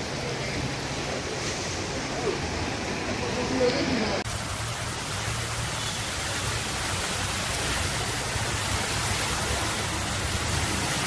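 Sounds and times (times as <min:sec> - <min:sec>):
cars splashing through water: 0:00.0 - 0:11.0
rain and running water: 0:00.0 - 0:11.0.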